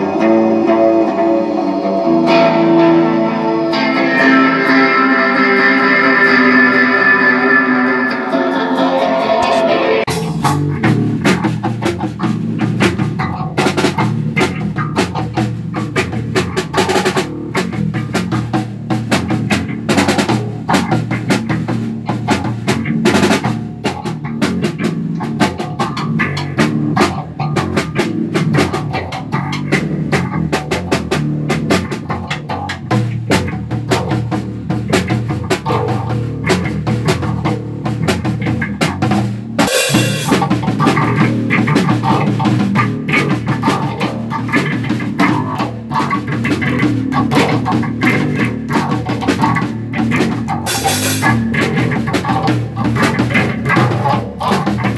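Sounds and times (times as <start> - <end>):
drum kit beat: 0.0 - 54.9
electric bass guitar: 0.0 - 54.9.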